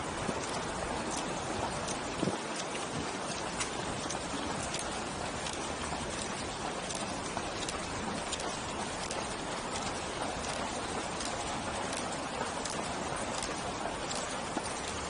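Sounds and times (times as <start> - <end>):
constant rushing hiss: 0.0 - 15.0
running footsteps on pavement: 0.0 - 15.0.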